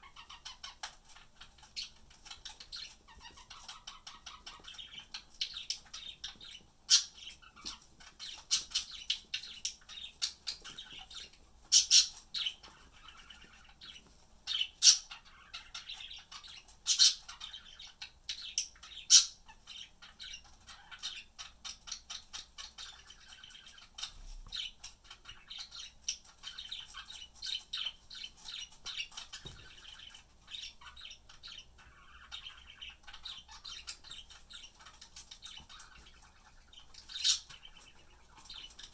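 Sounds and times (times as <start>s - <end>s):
budgerigars chirping: 0.0s - 38.9s
sharp bird calls: 0.0s - 38.9s.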